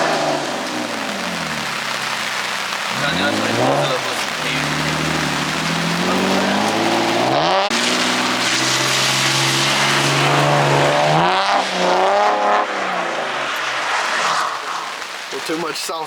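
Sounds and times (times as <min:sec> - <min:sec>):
car engine revving hard: 0:00.0 - 0:15.0
tyres hissing on wet pavement: 0:00.0 - 0:16.0.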